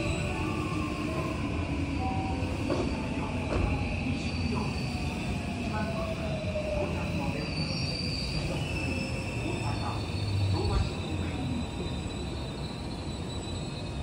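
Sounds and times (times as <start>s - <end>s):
low train rumble: 0.0s - 14.0s
faint passenger voices: 0.2s - 12.4s.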